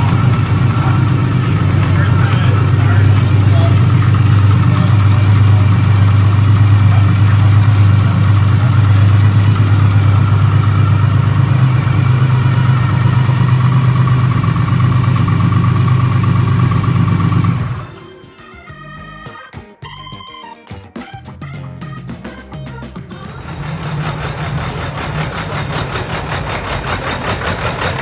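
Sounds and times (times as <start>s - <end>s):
car engine running: 0.0s - 18.6s, 23.1s - 28.0s.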